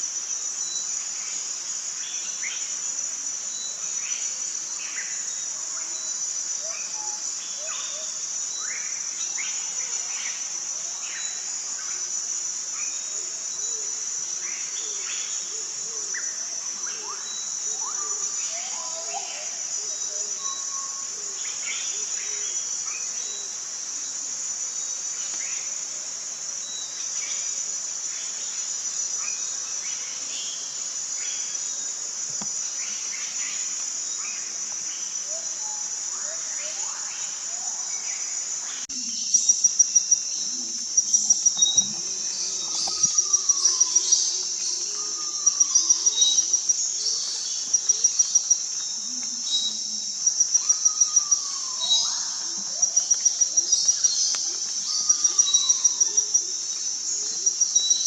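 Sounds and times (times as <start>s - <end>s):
pulsing insect trills: 0.0s - 58.0s.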